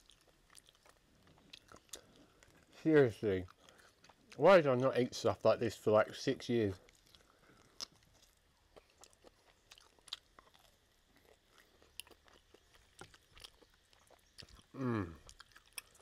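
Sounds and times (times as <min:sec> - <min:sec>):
wet chewing clicks and smacks: 0:00.0 - 0:05.0, 0:06.8 - 0:16.0.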